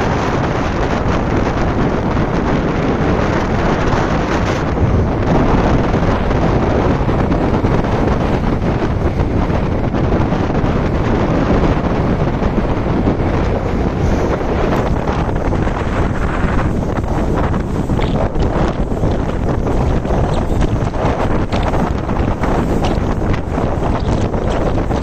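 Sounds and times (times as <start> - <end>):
rough sea surf breaking: 0.0 - 25.0
wind buffeting microphone: 0.0 - 25.0.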